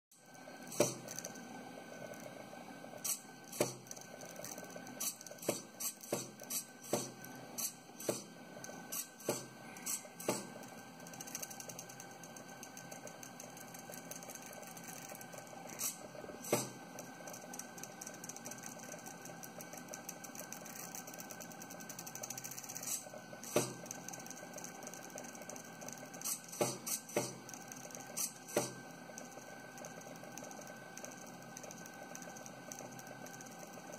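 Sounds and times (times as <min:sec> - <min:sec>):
stepper motors humming: 0:00.1 - 0:33.9.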